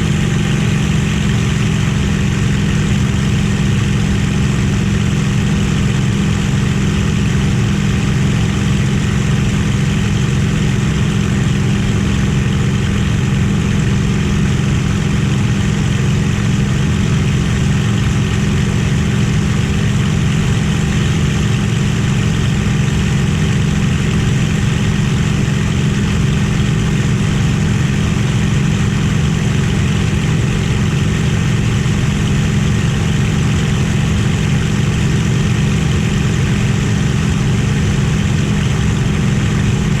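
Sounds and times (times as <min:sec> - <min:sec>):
piston aircraft engine droning: 0:00.0 - 0:40.0.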